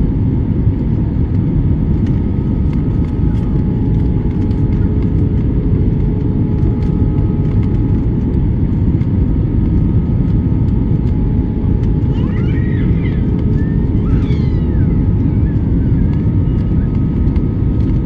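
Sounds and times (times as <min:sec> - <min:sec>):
airliner engines roaring: 0:00.0 - 0:18.0
constant hums: 0:00.0 - 0:18.0.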